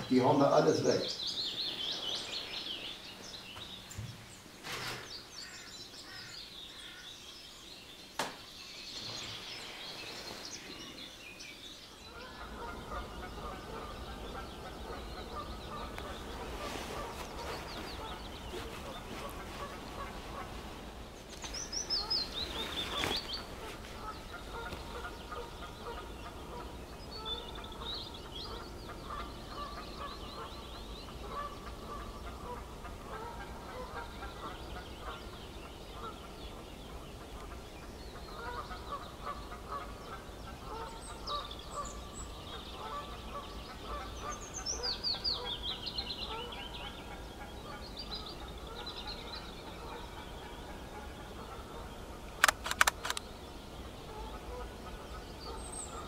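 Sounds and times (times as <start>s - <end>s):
birds chirping and honking: 0.0s - 56.0s.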